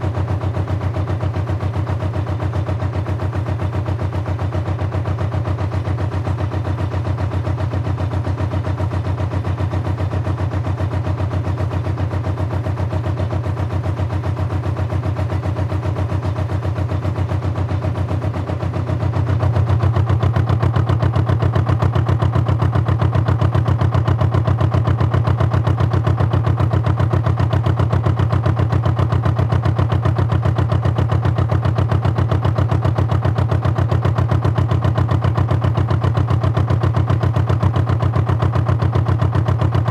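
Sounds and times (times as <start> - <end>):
diesel boat engine running: 0.0 - 39.9.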